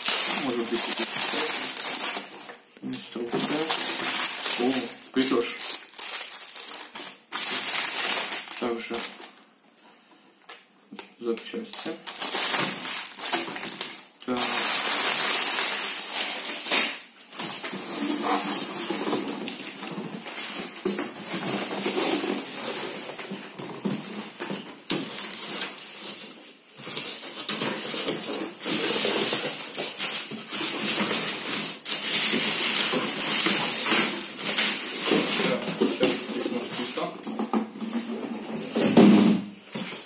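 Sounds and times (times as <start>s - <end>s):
plastic wrapping crinkling: 0.0s - 40.0s.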